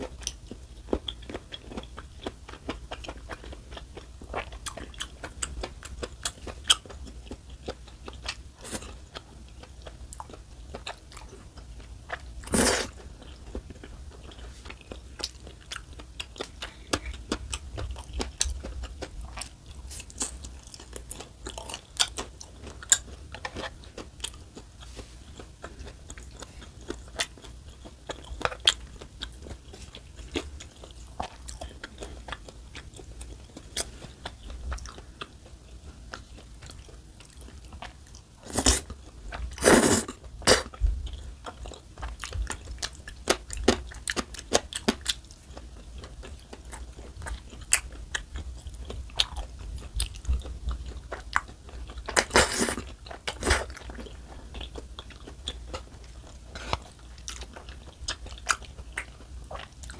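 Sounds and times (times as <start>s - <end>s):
wet chewing: 0.1s - 59.9s.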